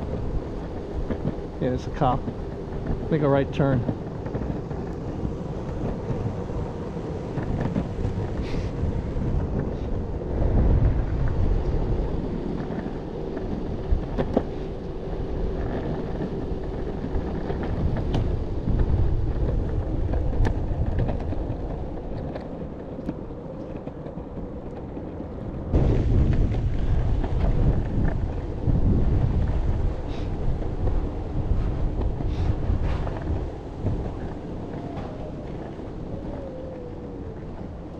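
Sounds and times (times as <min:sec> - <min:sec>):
skateboard wheels rolling on asphalt: 0:00.0 - 0:37.9
wind buffeting microphone: 0:00.0 - 0:37.9.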